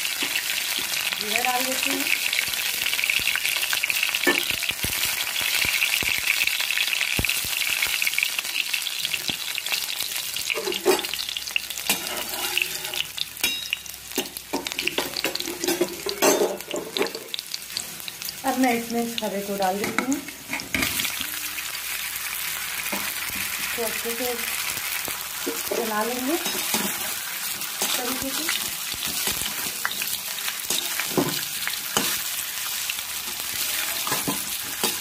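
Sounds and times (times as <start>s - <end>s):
spices sizzling in hot oil: 0.0s - 35.0s.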